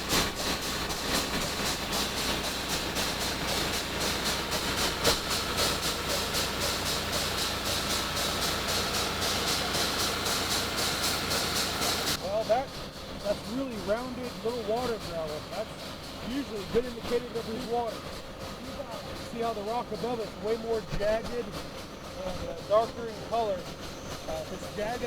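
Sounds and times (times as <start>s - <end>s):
drill rig hissing and clattering: 0.0s - 25.0s.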